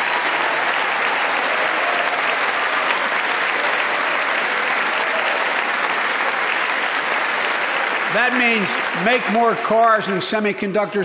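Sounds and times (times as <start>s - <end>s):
large audience applauding: 0.0s - 11.0s.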